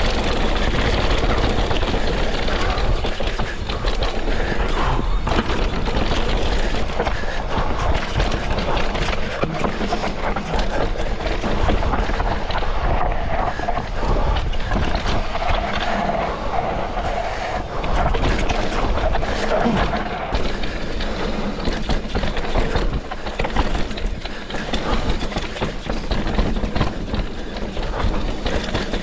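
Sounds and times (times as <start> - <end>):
wind on camera microphone: 0.0 - 24.2
bike rattling and knocking: 0.0 - 29.0
tyres rolling over dirt and rocks: 0.0 - 29.0.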